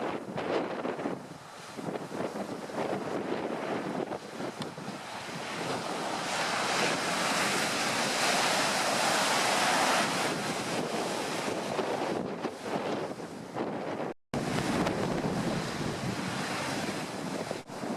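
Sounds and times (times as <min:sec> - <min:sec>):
waves breaking on shore: 0:00.0 - 0:17.9
wind buffeting microphone: 0:00.0 - 0:17.9.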